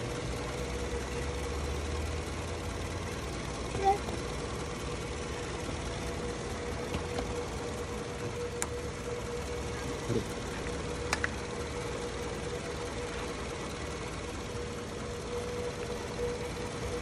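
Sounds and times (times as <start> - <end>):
car engine idling: 0.0 - 17.0
steady alternator tone: 0.0 - 17.0.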